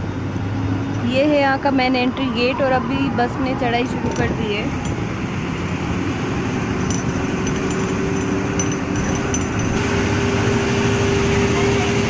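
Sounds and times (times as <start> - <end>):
bus engine humming: 0.0 - 12.0
road rumble: 0.0 - 12.0.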